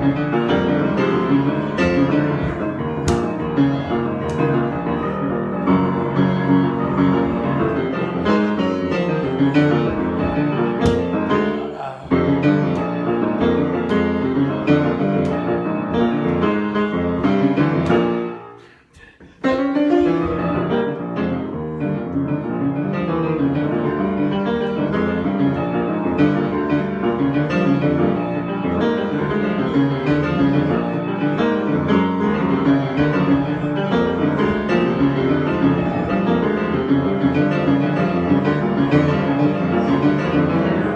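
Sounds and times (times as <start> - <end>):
solo piano improvisation: 0.0 - 18.8, 19.4 - 40.9.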